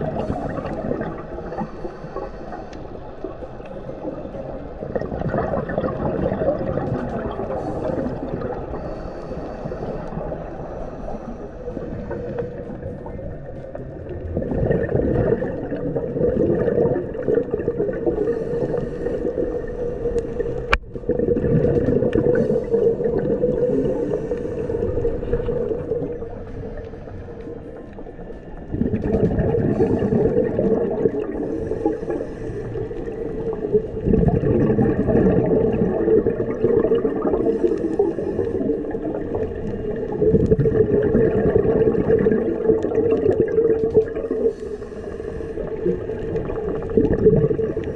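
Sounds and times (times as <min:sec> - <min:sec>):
exhaled bubbles: 0:00.0 - 0:47.9
regulator breathing underwater: 0:00.0 - 0:47.9
steady hum: 0:00.0 - 0:47.9.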